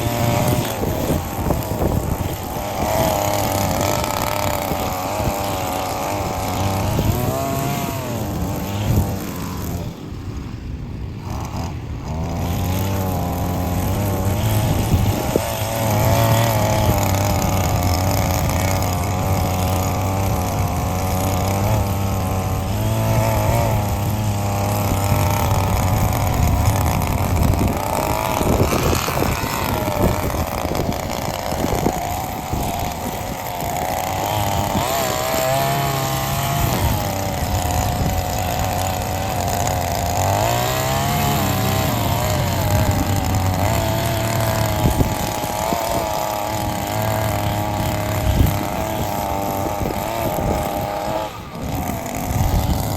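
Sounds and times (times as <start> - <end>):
grass cutter petrol engine: 0.0 - 52.9.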